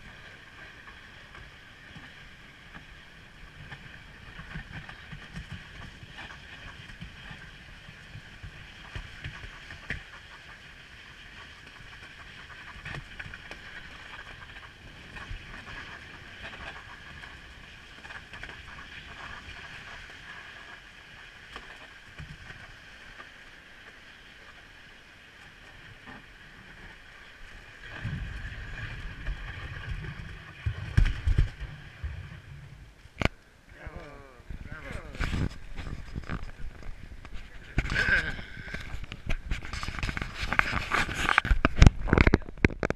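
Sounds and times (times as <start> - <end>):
sled runners sliding on asphalt: 0.0 - 33.2, 34.8 - 42.9.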